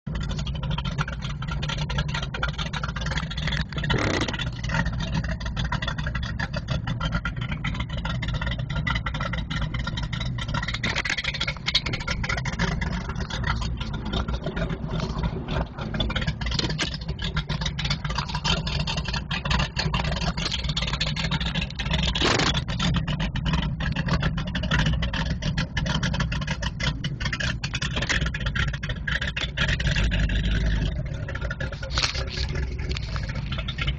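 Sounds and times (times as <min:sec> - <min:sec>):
motorboat engine rumbling: 0:00.0 - 0:33.9.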